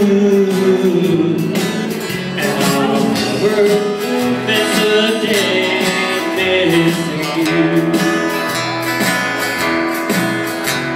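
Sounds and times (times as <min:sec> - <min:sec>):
strummed acoustic guitars: 0:00.0 - 0:10.9.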